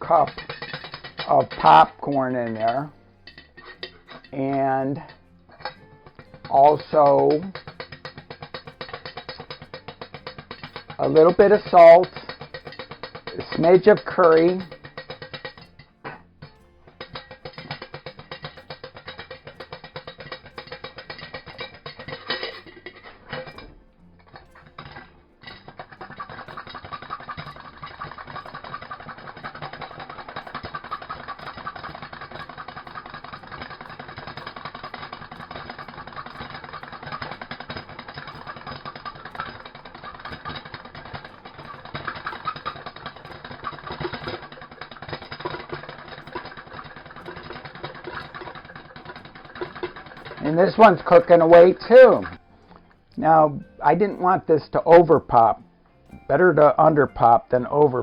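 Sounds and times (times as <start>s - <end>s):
popcorn crackling in a pot: 0.0s - 58.0s.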